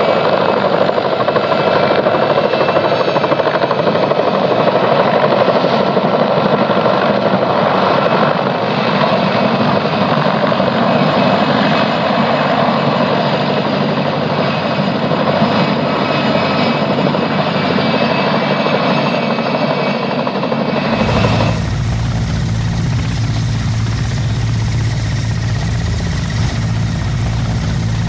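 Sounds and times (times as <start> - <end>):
helicopter hovering: 0.0 - 28.0.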